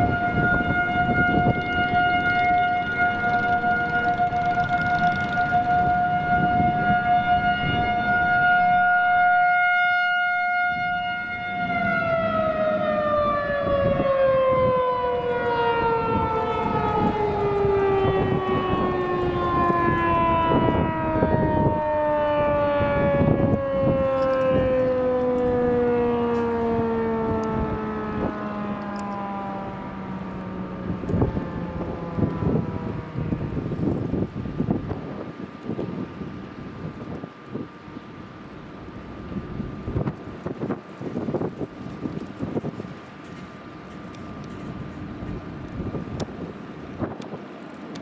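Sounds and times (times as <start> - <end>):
rotating siren: 0.0 - 48.0.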